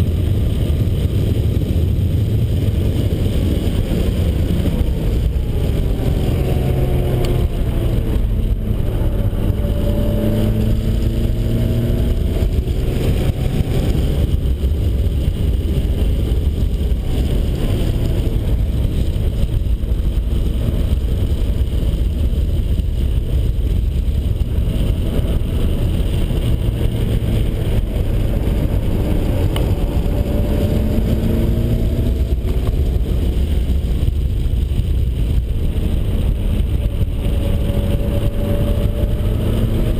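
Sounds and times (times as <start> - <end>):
car engine revving: 0.0 - 39.9
wind and road noise: 0.0 - 39.9.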